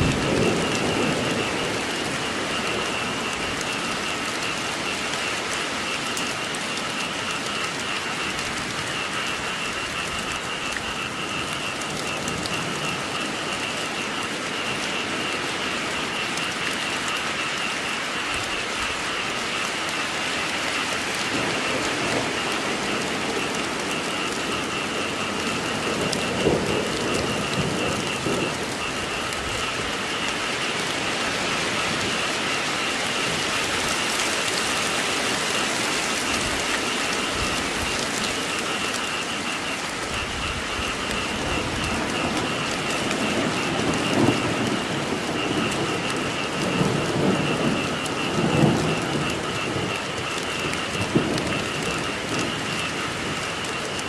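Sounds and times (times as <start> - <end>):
frogs calling: 0.0 - 54.0
rain falling: 0.0 - 54.0
thunder rumbling: 0.0 - 54.0.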